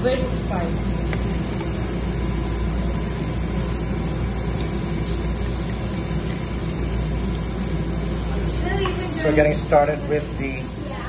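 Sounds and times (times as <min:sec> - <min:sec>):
ventilation rushing: 0:00.0 - 0:11.0.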